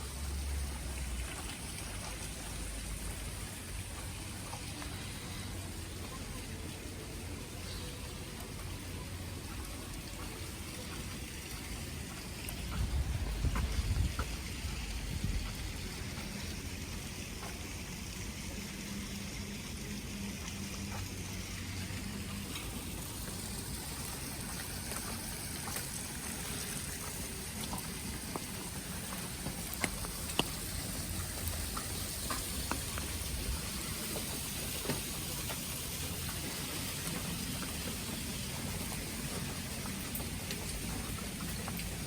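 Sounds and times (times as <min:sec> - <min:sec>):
light dripping ticks: 0:00.0 - 0:42.0
wet snow falling hiss: 0:00.0 - 0:42.0.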